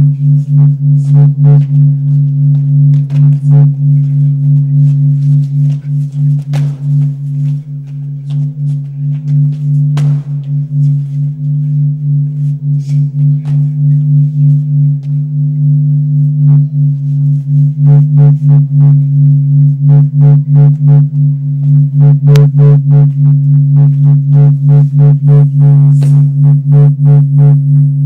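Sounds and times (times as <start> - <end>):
electronic beat of clicks and kicks: 0.0 - 28.0
pulsing low drone: 0.0 - 28.0.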